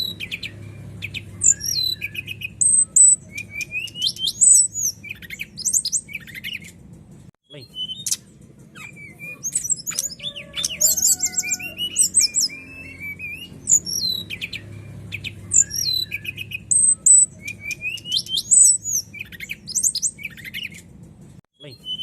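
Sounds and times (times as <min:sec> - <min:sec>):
flycatcher singing: 0:00.0 - 0:06.8, 0:07.5 - 0:20.9.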